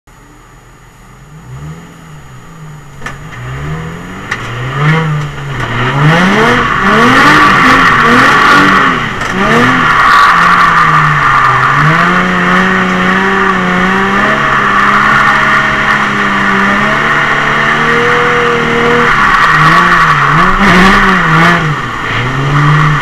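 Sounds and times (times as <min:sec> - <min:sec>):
car engine revving: 0:01.1 - 0:23.0
tyres screeching: 0:04.4 - 0:23.0.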